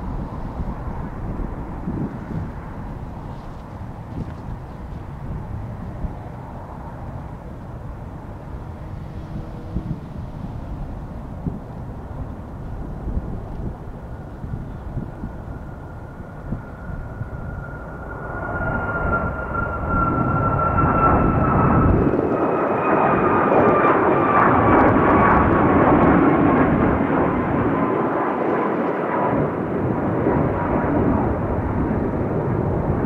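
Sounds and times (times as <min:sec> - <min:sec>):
high fan whine: 0:00.0 - 0:27.0
jet engines at takeoff: 0:00.0 - 0:33.0.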